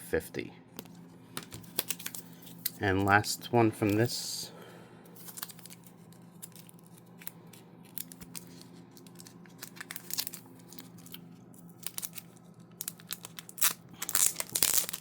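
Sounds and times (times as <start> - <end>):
card packaging clicks and crinkles: 0.8 - 3.2, 3.8 - 4.2, 5.1 - 15.0.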